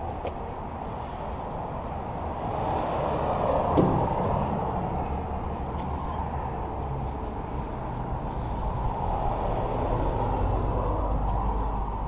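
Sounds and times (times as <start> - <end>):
road vehicle passing: 0.0 - 12.0.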